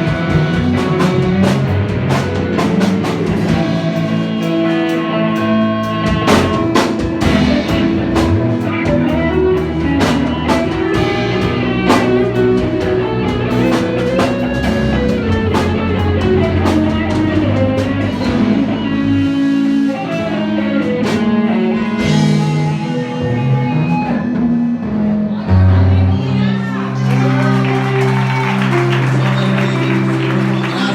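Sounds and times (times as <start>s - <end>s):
band playing guitar and drums: 0.0s - 30.9s.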